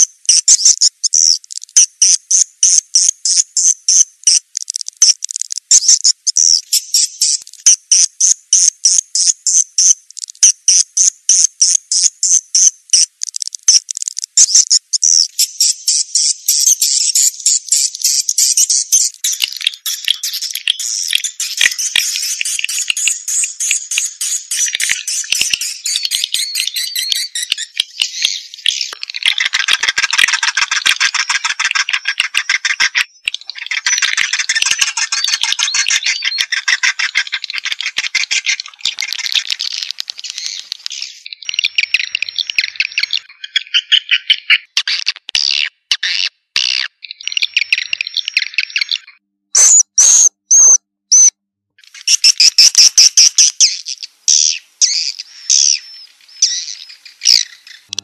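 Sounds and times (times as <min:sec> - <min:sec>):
loud bird chirps: 0:00.0 - 0:58.0.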